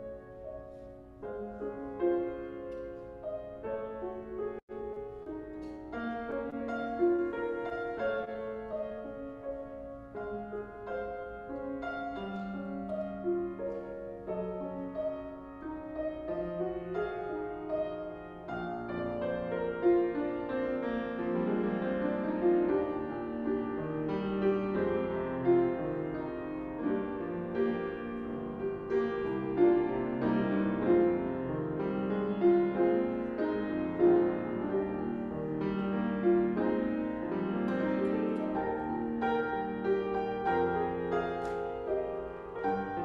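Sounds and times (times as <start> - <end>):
grand piano chords: 0.0 - 43.0.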